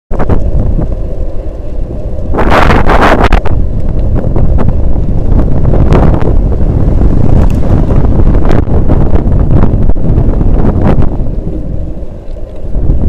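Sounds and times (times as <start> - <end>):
wind buffeting microphone: 0.1 - 13.0.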